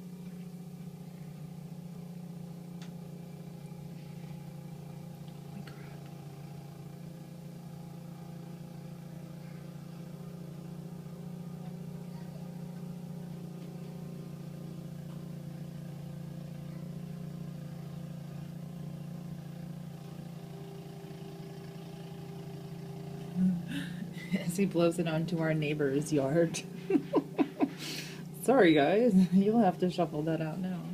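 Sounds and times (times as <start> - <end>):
snowblower engine running: 0.0 - 30.9.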